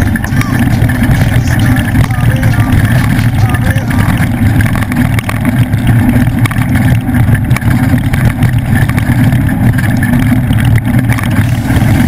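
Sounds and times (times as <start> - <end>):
road and wind noise: 0.0 - 12.0
truck engine running hard: 0.0 - 12.0.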